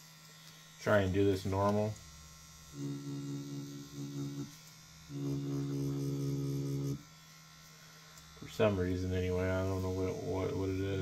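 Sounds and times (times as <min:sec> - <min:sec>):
tattoo machine humming: 0:00.0 - 0:11.0.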